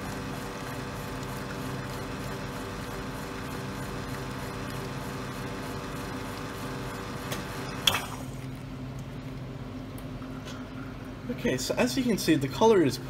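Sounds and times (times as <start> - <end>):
espresso machine pump hum: 0.0 - 12.4.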